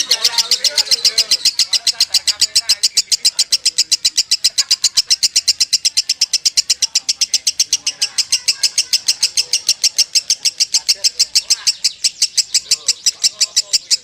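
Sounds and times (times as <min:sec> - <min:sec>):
lovebird chirping rapidly: 0:00.0 - 0:14.0.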